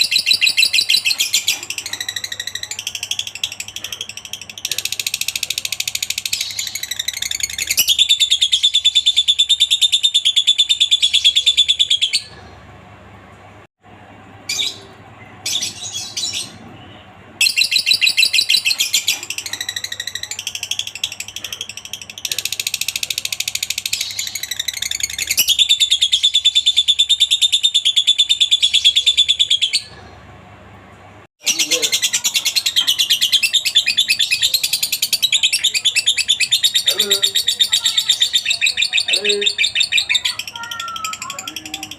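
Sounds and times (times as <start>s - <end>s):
lovebird chattering trill: 0.0s - 12.4s, 17.4s - 30.0s, 31.4s - 41.9s.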